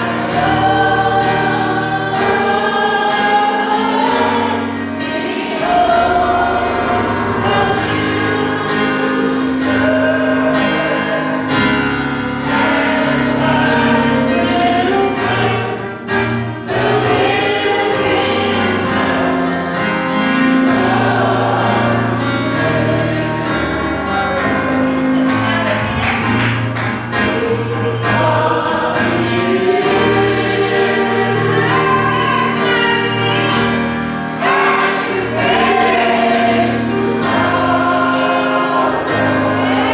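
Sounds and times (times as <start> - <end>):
choir singing gospel: 0.0 - 39.9
instrumental accompaniment: 0.0 - 39.9.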